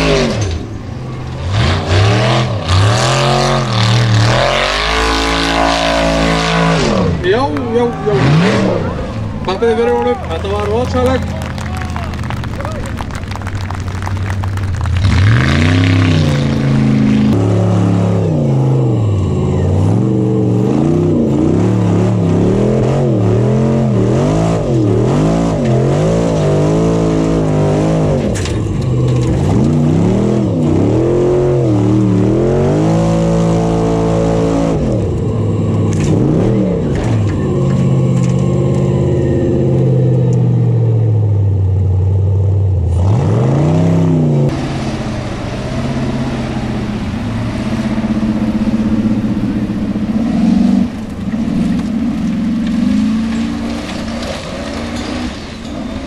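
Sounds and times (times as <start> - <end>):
buggy engine revving hard: 0.0 - 41.4, 42.4 - 56.0.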